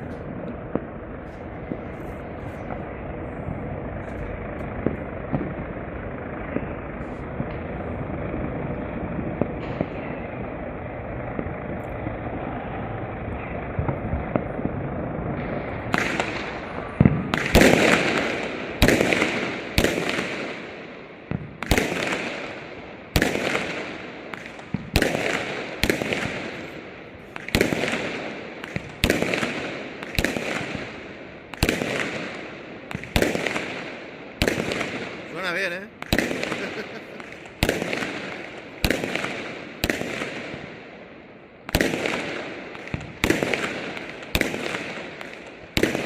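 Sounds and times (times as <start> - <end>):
firework shells bursting with bangs: 0.0 - 46.0
fireworks crackling: 0.0 - 46.0.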